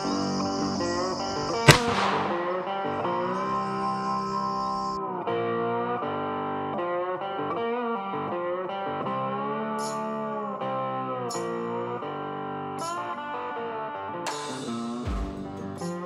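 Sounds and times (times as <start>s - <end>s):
guitar melody with bending notes: 0.0s - 16.0s.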